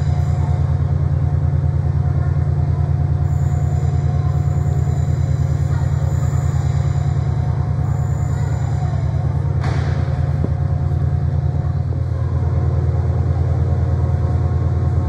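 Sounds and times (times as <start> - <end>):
diesel train engine idling: 0.0 - 15.0.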